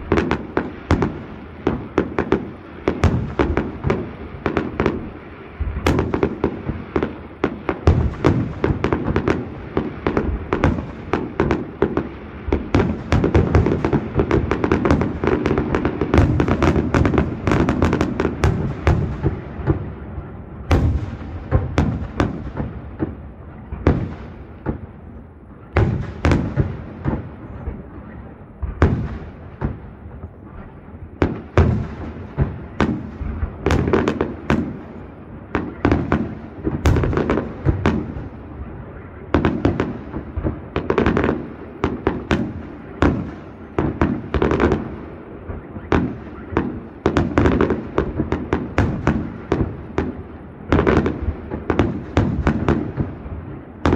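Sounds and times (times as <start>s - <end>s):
fireworks bursting: 0.0s - 53.9s.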